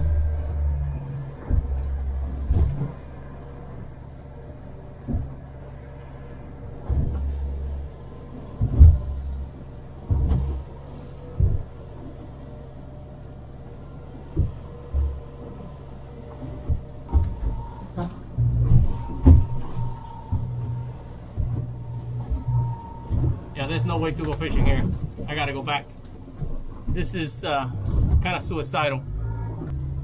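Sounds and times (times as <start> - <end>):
boat engine drone: 0.0 - 30.0
boat hull slamming and splashing: 0.0 - 30.0.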